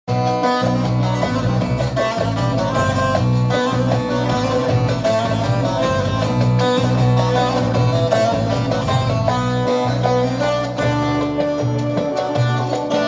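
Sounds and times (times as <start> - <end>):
plucked strings: 0.1 - 13.0
steady bass line: 0.1 - 13.0.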